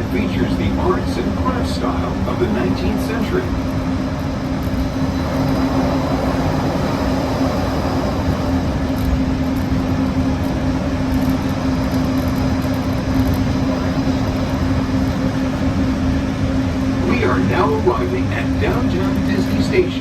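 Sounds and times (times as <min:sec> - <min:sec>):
low hum: 0:00.0 - 0:20.0
train rumble: 0:00.0 - 0:20.0.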